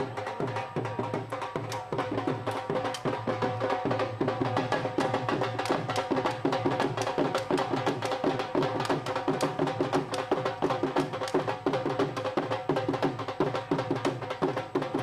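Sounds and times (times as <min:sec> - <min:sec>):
fast hand-drum strokes: 0:00.0 - 0:15.0.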